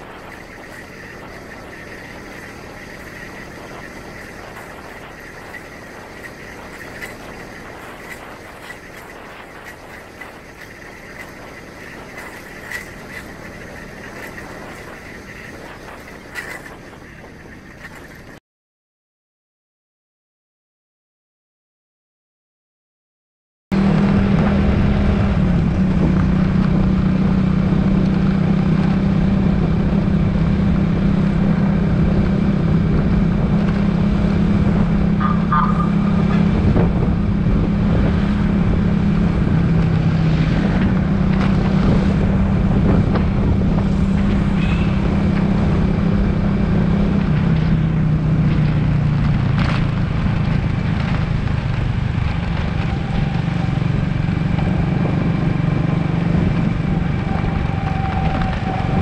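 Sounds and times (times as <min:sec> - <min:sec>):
motorcycle engine running: 0:00.0 - 0:18.4, 0:23.8 - 0:59.0
wind rumbling on microphone: 0:00.0 - 0:18.4, 0:23.8 - 0:59.0.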